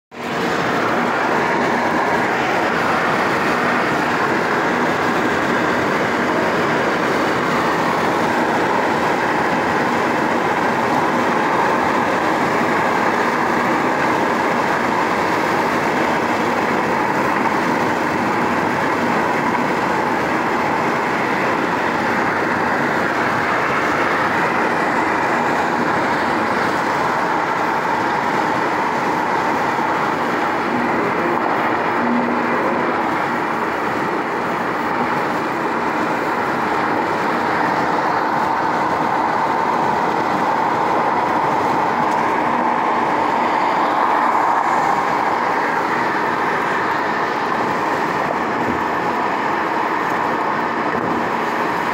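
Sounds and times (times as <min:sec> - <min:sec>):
road and tyre noise in car: 0:00.1 - 0:51.9.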